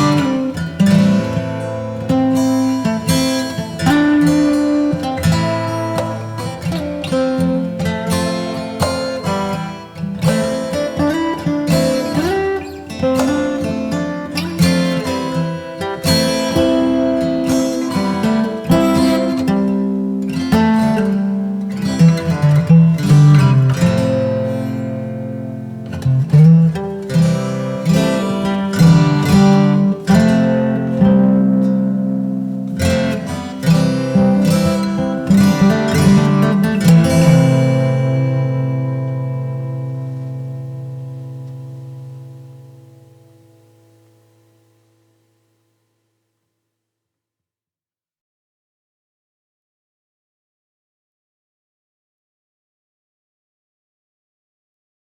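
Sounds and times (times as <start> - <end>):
acoustic guitar plucked and strummed: 0.0 - 45.4.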